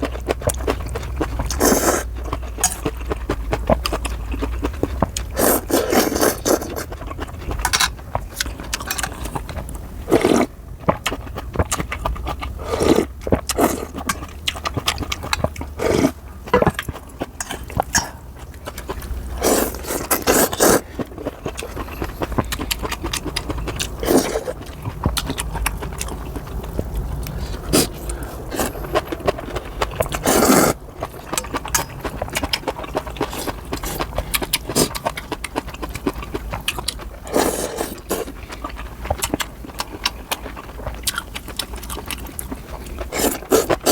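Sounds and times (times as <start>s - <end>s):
slurping noodle soup: 0.0s - 35.2s, 35.8s - 43.9s
chewing: 0.0s - 43.9s.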